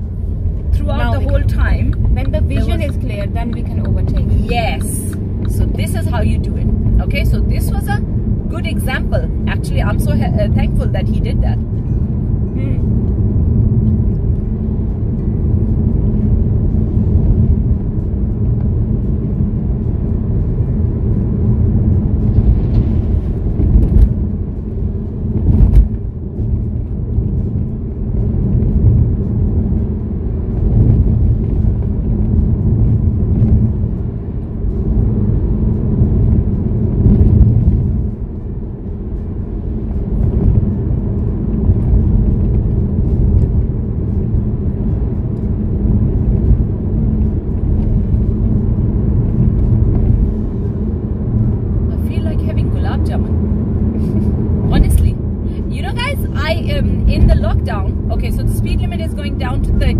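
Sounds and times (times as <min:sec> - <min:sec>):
road rumble inside car: 0:00.0 - 0:59.9.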